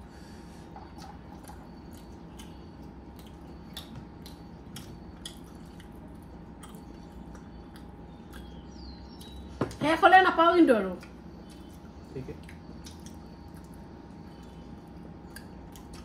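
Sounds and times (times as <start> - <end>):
faint steady hum: 0.0 - 16.0
person chewing food: 0.6 - 9.6, 11.0 - 16.0.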